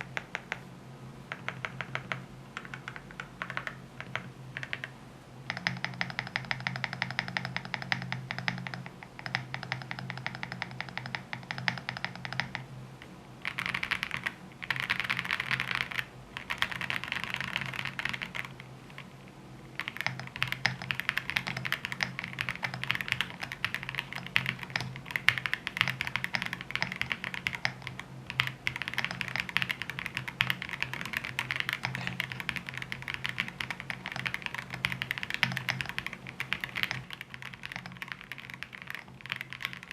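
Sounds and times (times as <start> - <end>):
low steady hum: 0.0 - 39.9
mechanical keyboard typing: 1.3 - 4.9, 5.5 - 12.6, 13.4 - 19.1, 19.8 - 39.9.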